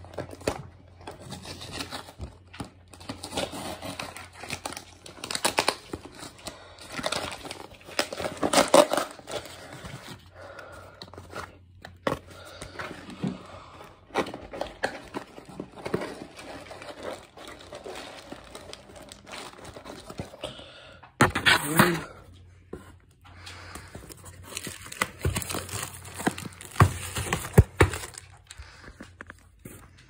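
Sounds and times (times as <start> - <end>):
packaging crinkling and rustling: 0.0 - 20.4, 23.4 - 30.0.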